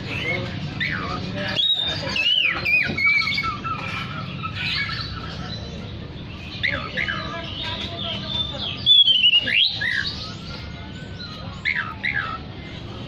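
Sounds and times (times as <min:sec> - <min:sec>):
bird singing whistled notes: 0:00.0 - 0:12.5.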